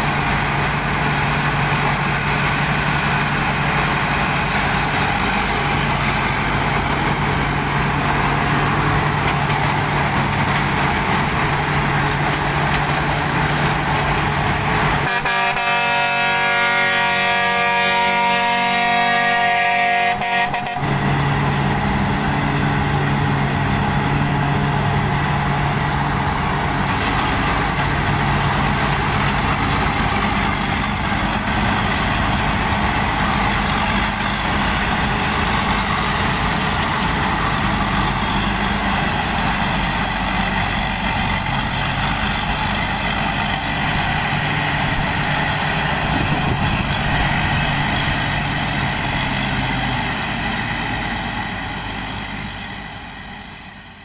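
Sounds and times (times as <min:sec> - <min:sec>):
combine harvester engine and threshing: 0:00.0 - 0:19.7, 0:20.5 - 0:54.0.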